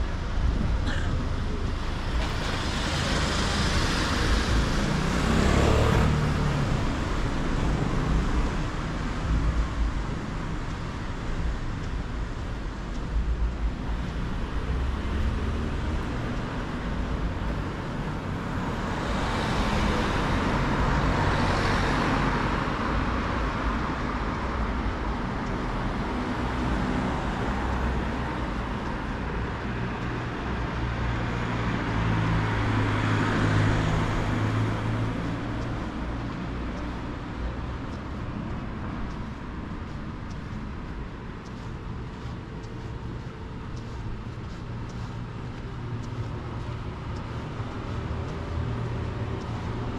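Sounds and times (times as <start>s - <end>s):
cars driving past: 0.0s - 49.9s
low engine hum: 0.0s - 49.9s.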